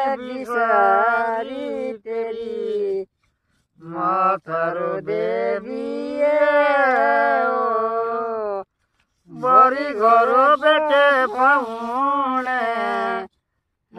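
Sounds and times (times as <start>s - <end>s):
man singing: 0.0s - 3.1s, 3.8s - 8.6s, 9.3s - 13.3s.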